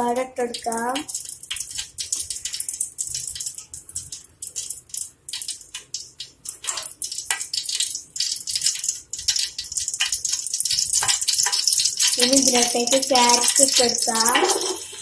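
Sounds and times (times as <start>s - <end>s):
oil crackling and spitting: 0.6s - 15.0s.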